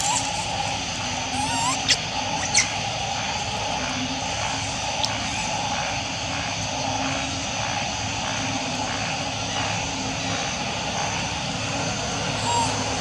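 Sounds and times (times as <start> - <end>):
insect chorus droning: 0.0 - 13.0.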